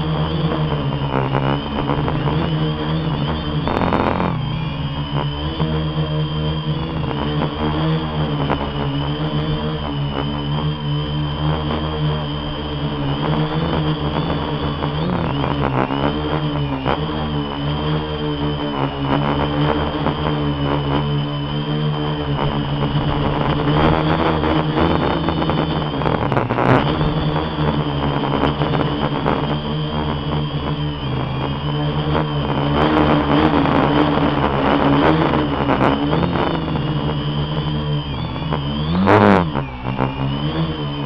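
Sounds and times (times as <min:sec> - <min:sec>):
drone propellers whining: 0:00.0 - 0:41.0.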